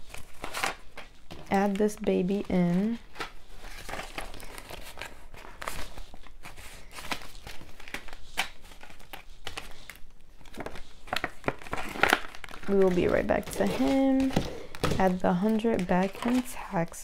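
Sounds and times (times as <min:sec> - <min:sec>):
banknotes rustling and crinkling: 0:00.0 - 0:17.0.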